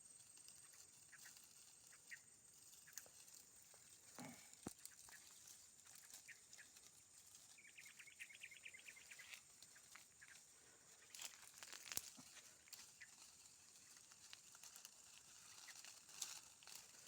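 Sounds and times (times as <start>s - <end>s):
faint rustling: 0.0s - 17.0s
small bird chirping: 0.0s - 17.0s.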